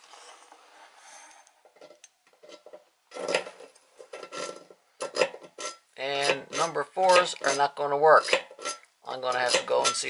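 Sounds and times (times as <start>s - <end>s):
metal scraping and clinking: 1.2s - 10.0s.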